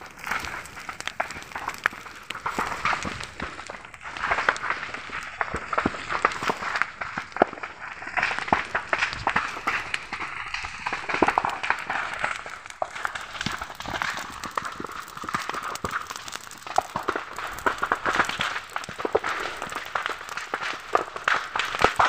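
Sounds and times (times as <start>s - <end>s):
dry grass burning crackling: 0.0s - 22.0s.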